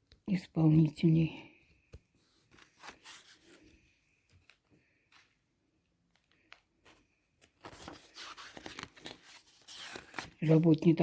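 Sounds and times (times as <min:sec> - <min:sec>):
book pages rustling: 0:01.8 - 0:10.6.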